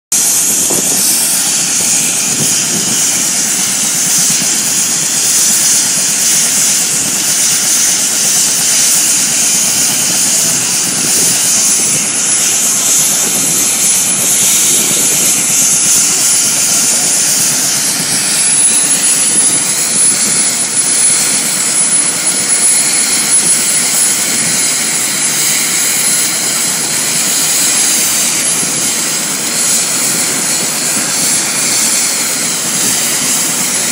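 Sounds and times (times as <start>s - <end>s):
helicopter rotor noise: 0.1s - 33.9s
helicopter turbine whine: 0.1s - 33.9s.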